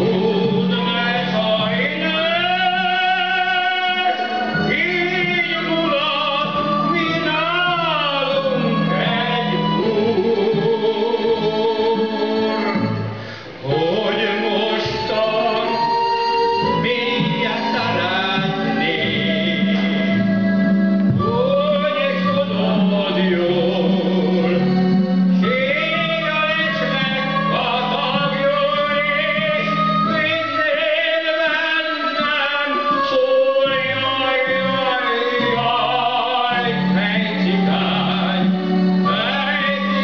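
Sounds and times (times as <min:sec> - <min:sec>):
instrumental accompaniment: 0:00.0 - 0:40.0
man singing into microphone: 0:00.0 - 0:40.0.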